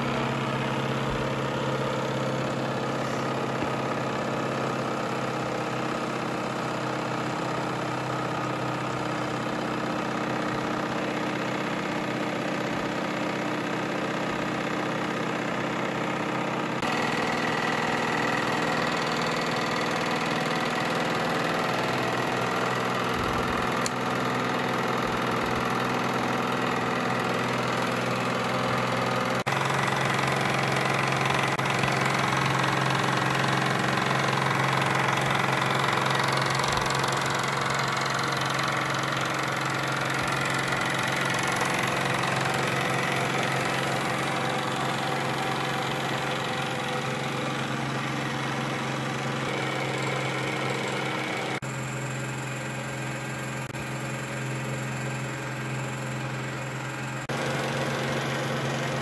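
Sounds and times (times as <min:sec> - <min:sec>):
small machine humming: 0:00.0 - 0:59.0.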